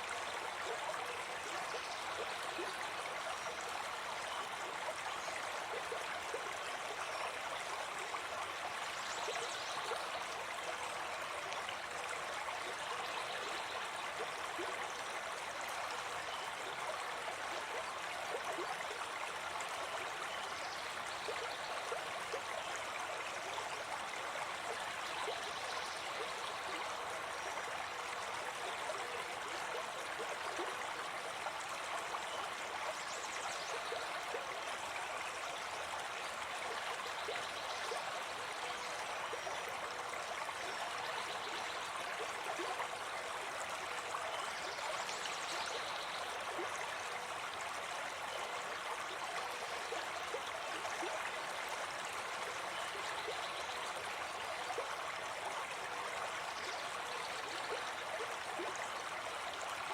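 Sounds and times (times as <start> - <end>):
brook flowing: 0.0 - 59.9.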